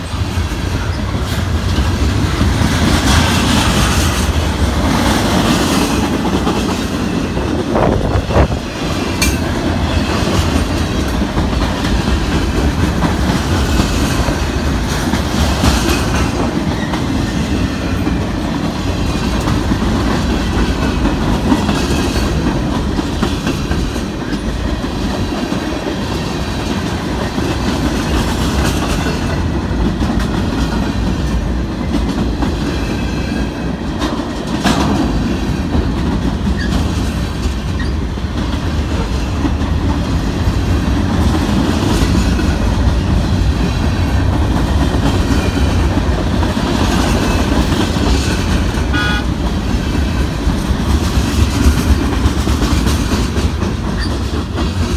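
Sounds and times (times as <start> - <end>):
freight train wheels rumbling on rail: 0.0 - 54.9.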